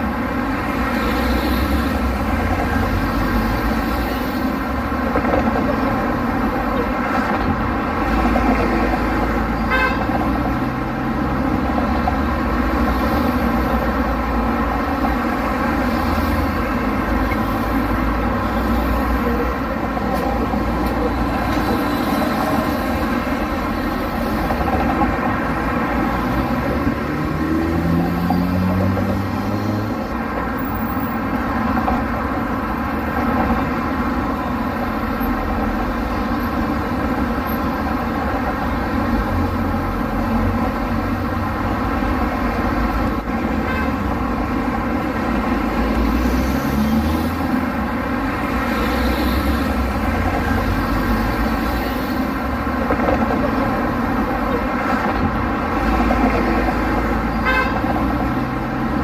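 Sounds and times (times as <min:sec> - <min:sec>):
traffic engines rumbling: 0:00.0 - 0:59.0.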